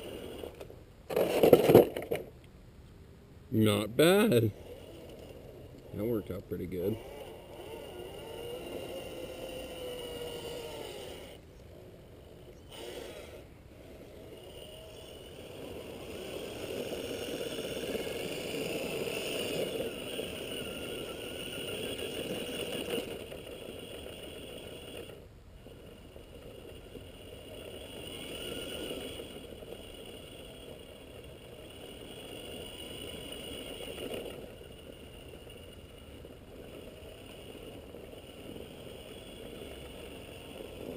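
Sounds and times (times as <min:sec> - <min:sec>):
toy car motor whining: 0:00.0 - 0:02.3, 0:03.6 - 0:40.9.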